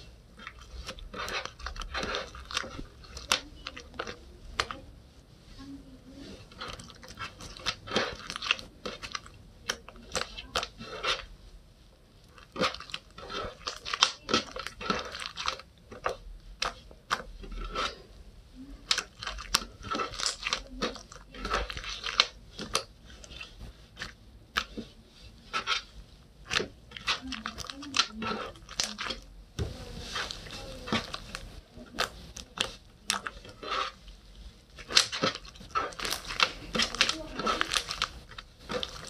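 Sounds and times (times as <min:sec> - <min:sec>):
slime popping and crackling: 0:00.0 - 0:04.9, 0:06.4 - 0:11.3, 0:12.2 - 0:18.0, 0:18.8 - 0:39.0
sticky slime squishing: 0:00.0 - 0:39.0.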